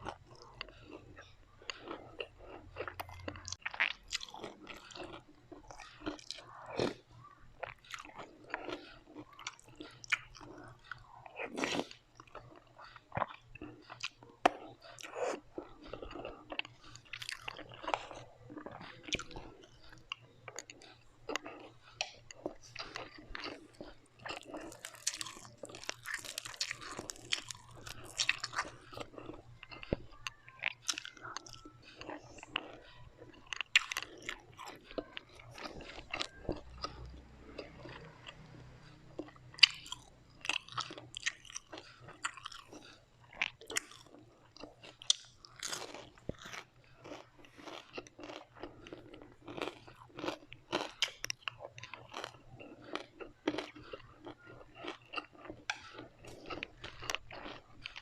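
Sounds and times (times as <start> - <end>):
chewing and crunching crisp food: 0.0 - 58.0.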